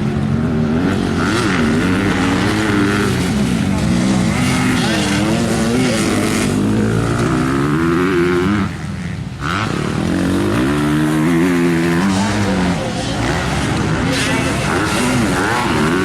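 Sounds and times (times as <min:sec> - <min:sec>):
motocross engines revving: 0:00.0 - 0:16.0.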